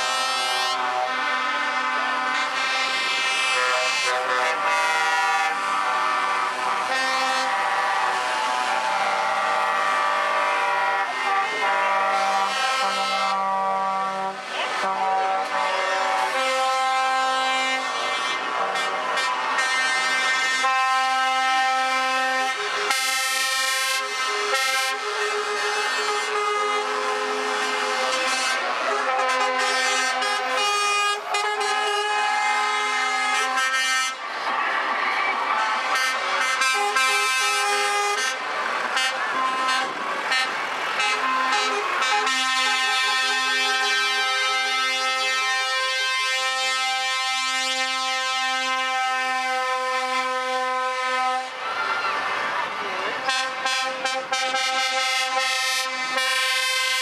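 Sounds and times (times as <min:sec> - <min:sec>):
truck air horns: 0:00.0 - 0:52.5, 0:53.1 - 0:57.0.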